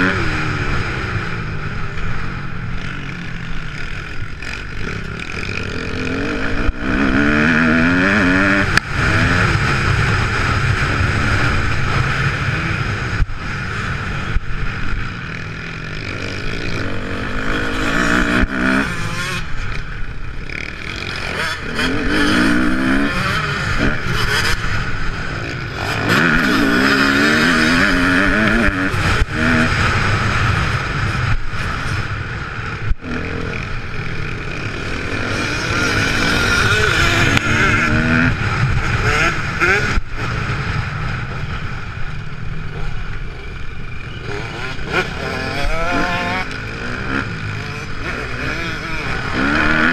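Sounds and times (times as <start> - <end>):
motocross engine revving: 0.0 - 19.7, 20.4 - 40.9, 44.0 - 49.9.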